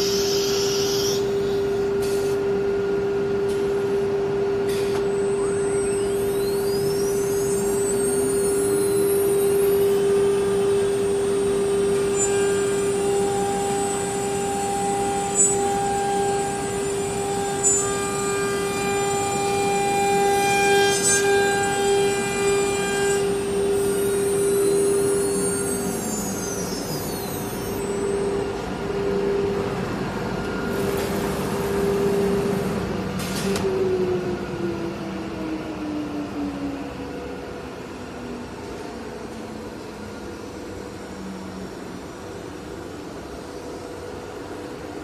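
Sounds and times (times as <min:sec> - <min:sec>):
cnc router spindle running: 0:00.0 - 0:45.0.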